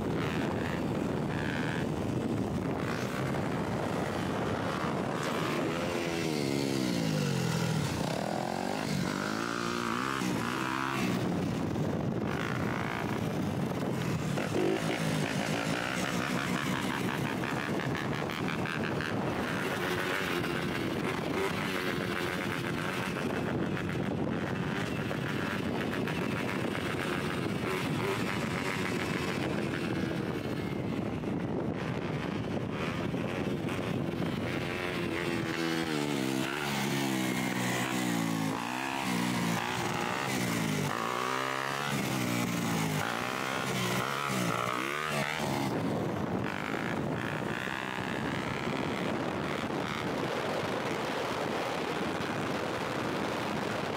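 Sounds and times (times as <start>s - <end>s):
dirt bike engine revving: 0.1s - 11.4s, 14.2s - 30.3s, 31.8s - 50.7s.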